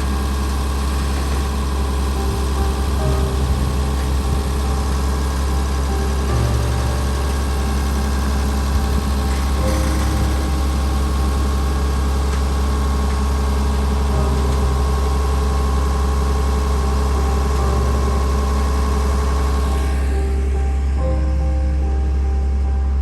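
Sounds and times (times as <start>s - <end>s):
vehicle engine idling: 0.0s - 21.2s.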